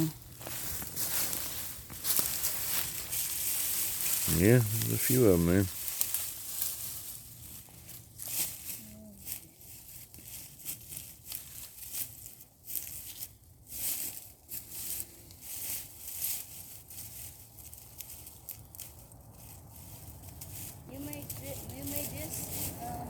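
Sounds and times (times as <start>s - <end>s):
wood chips and soil crunching: 0.0s - 23.0s.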